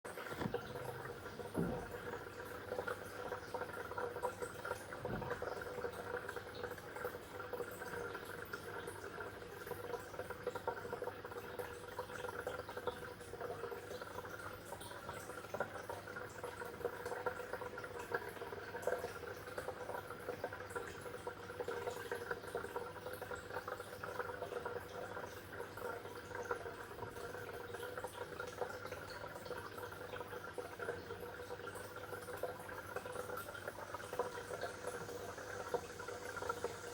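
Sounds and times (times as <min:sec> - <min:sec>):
water bubbling and trickling: 0:00.1 - 0:36.9.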